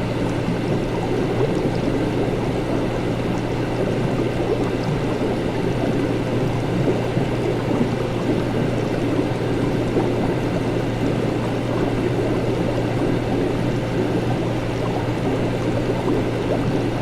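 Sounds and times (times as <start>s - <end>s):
liquid bubbling and gurgling: 0.0s - 17.0s.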